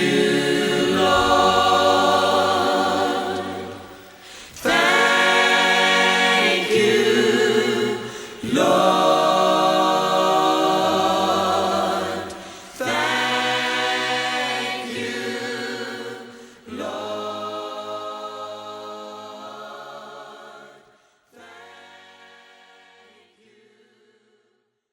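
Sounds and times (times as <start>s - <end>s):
choir singing: 0.0s - 24.6s.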